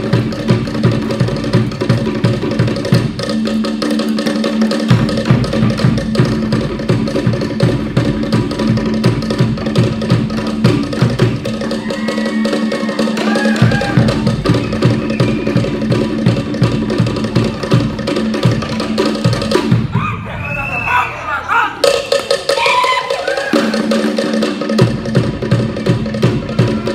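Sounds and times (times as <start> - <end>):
wooden slit drums beating: 0.0 - 20.5, 21.5 - 26.9.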